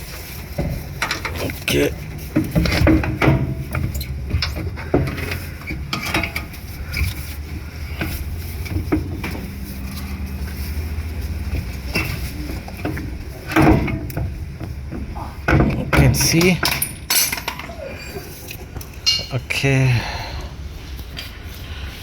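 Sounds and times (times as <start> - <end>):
metal tools clinking and knocking: 0.6 - 14.4, 15.5 - 19.6.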